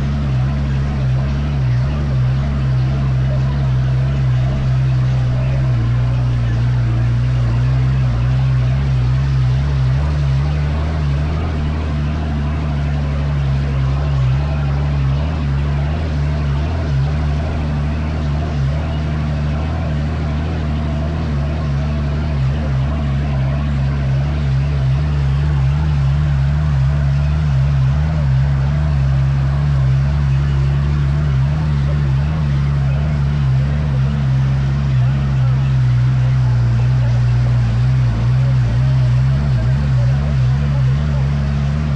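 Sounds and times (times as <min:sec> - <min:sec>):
dune buggy engine running: 0:00.0 - 0:41.9.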